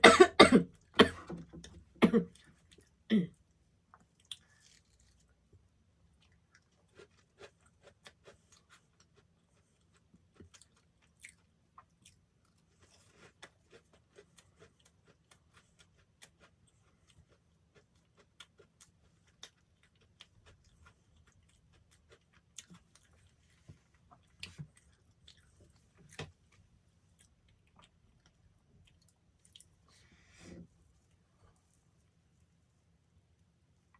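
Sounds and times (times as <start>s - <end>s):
chewing soft bread: 1.6s - 33.9s.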